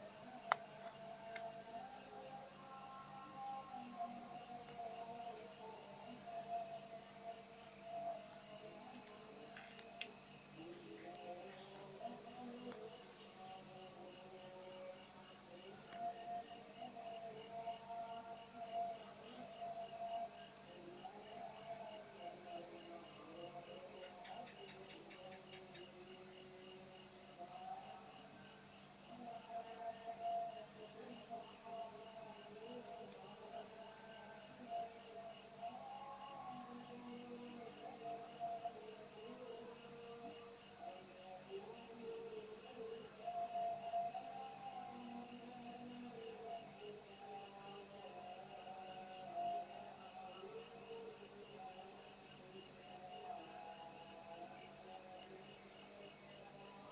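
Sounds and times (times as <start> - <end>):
crickets trilling: 0.0 - 56.9.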